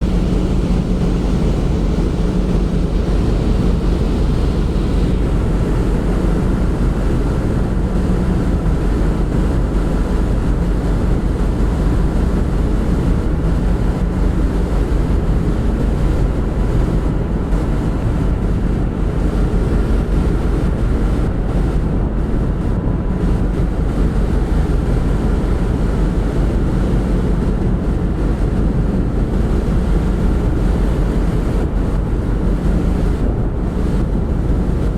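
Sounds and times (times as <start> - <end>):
ship engines rumbling: 0.0 - 34.9
wind buffeting microphone: 0.0 - 34.9.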